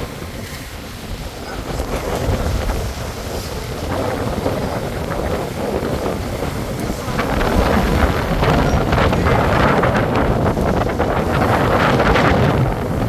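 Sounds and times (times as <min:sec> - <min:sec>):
water rushing along boat hulls: 0:00.0 - 0:13.0
wind buffeting microphone: 0:00.0 - 0:13.0.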